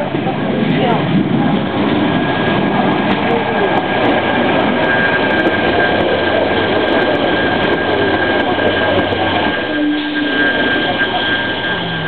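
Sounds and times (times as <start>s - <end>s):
train wheels rumbling on rail: 0.0s - 12.0s
high whine: 1.1s - 12.0s.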